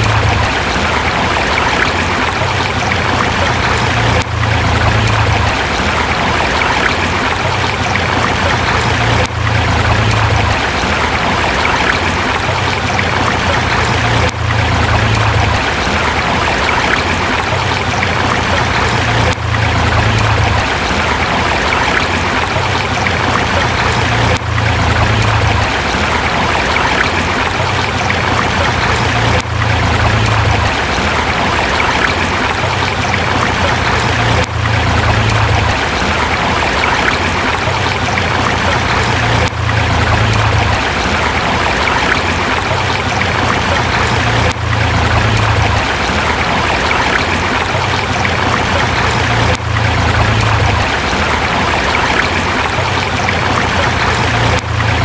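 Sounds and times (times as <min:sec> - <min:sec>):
river flowing over rocks: 0:00.0 - 0:55.0.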